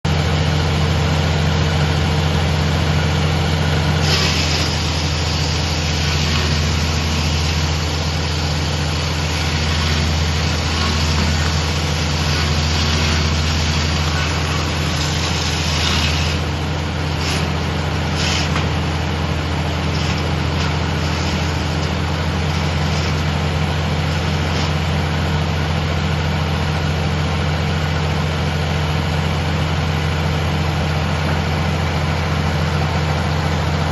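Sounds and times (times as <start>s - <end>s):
sawmill engine humming: 0.1s - 33.9s.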